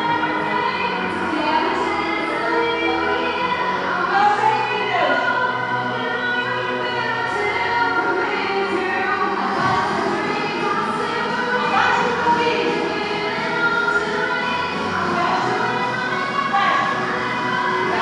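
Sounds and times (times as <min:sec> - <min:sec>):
steady bass line: 0:00.0 - 0:18.0.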